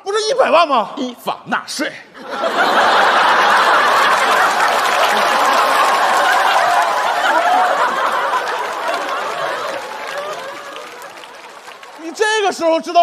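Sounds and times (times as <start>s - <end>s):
audience laughing: 2.2s - 12.9s.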